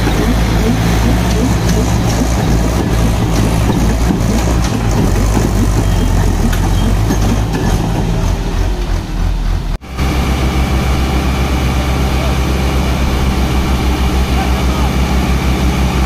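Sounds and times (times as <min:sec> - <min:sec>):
diesel tractor engines under load: 0:00.0 - 0:16.0.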